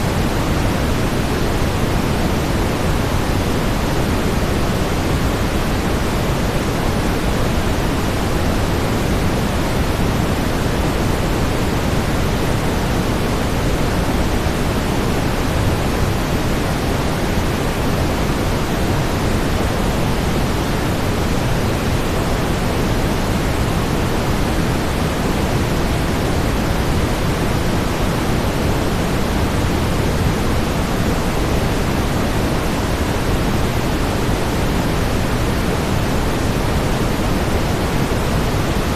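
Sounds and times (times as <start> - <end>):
steady brown noise: 0.0 - 38.9.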